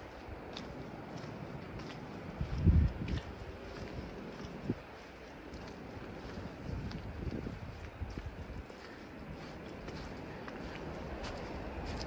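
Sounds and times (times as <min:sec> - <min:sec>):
footsteps on slushy snow: 0:00.0 - 0:12.0.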